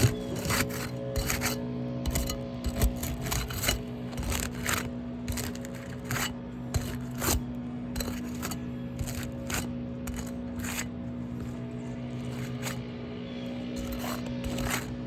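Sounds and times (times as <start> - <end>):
scraping on asphalt roof shingles: 0.0 - 15.0
steady low hum: 0.0 - 15.0.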